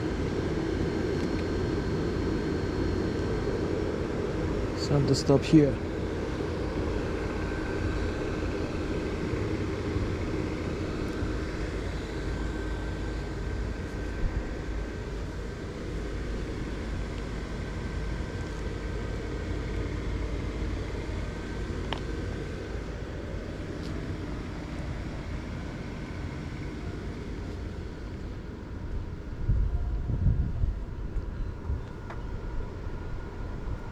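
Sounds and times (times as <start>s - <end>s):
faint steady whine: 0.0s - 33.9s.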